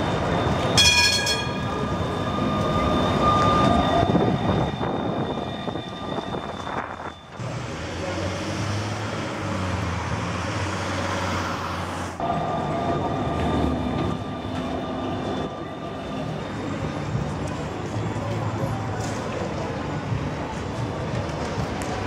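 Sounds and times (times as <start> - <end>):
electric tram humming: 0.0 - 22.0
street background noise: 0.0 - 22.0.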